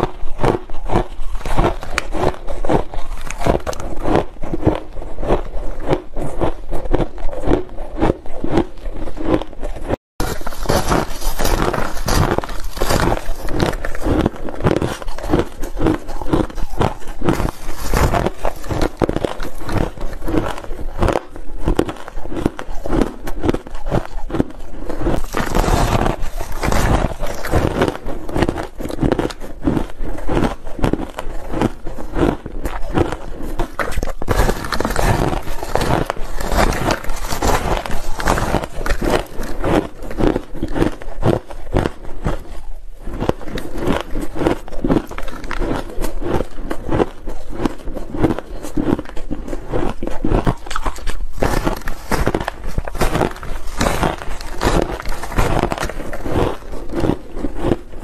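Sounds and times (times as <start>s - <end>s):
crunching shaved ice: 0.0s - 58.0s.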